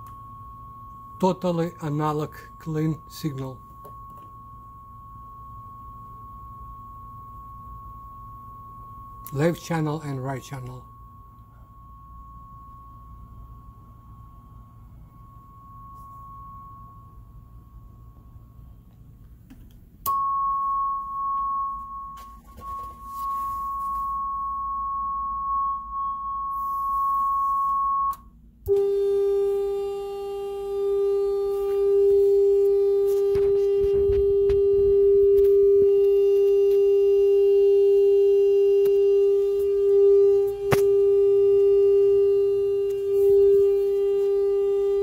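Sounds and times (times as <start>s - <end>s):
high pure test tone: 0.0s - 45.0s
lower steady tone with overtones: 0.0s - 45.0s.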